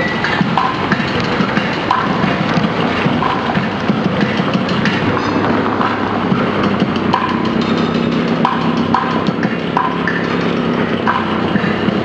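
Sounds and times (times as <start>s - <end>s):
drum kit playing fast rhythm: 0.0s - 12.0s
wood-block-like hits: 0.0s - 12.0s.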